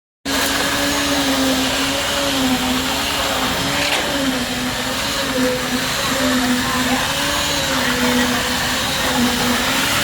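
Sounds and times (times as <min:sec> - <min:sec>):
machinery motor humming: 0:00.3 - 0:10.0.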